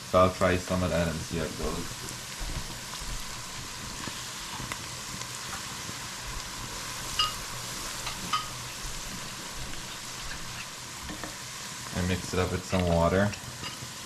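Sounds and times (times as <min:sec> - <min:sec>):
onions sizzling in a pot: 0:00.0 - 0:14.0.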